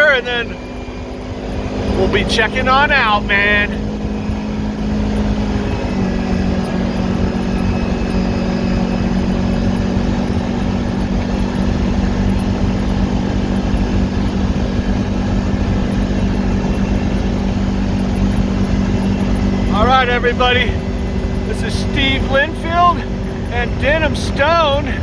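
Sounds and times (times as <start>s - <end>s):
atv engine droning: 0.0s - 25.0s
low rumbling ride noise: 0.0s - 25.0s.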